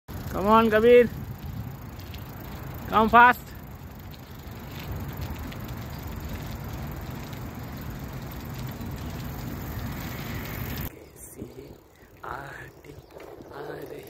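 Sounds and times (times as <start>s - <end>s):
bicycle tyres rolling: 0.1s - 14.0s
wind buffeting microphone: 0.1s - 14.0s.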